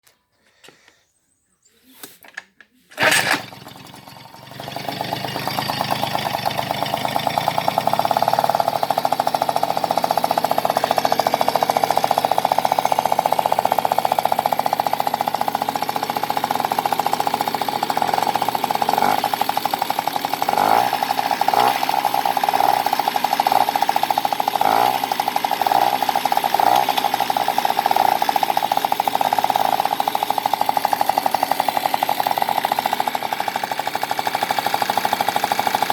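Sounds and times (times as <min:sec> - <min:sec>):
moped engine starting and running: 0:01.8 - 0:35.9.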